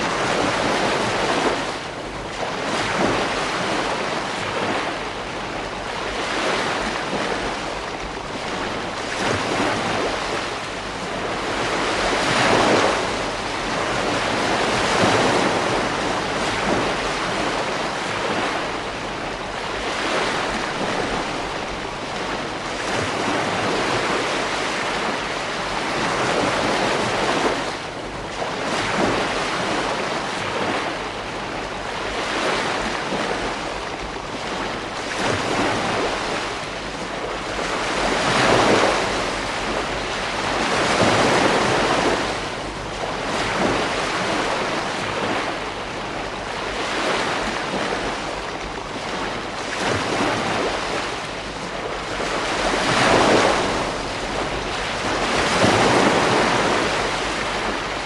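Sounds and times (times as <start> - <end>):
waves breaking on shore: 0.0 - 58.0.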